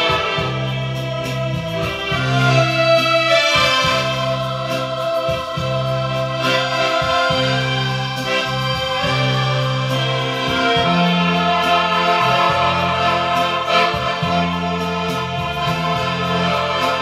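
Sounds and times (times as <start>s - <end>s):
piano accordion playing: 0.0s - 17.0s.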